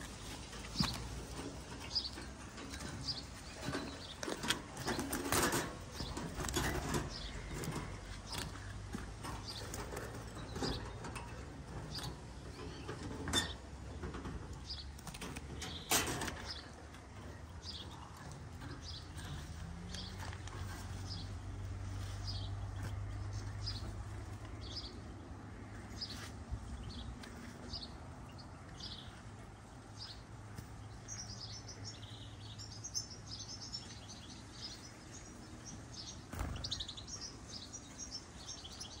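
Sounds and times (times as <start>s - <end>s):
songbird chirping and twittering: 0.0s - 39.0s.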